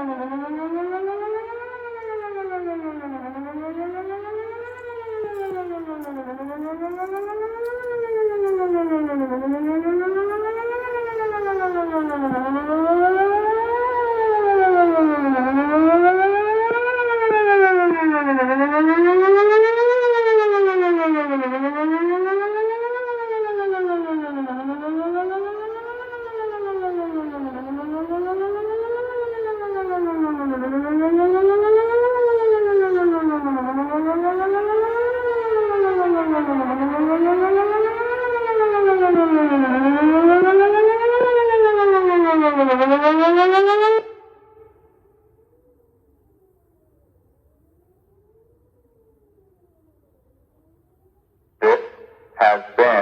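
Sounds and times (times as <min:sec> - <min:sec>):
warning siren wailing: 0:00.0 - 0:53.0.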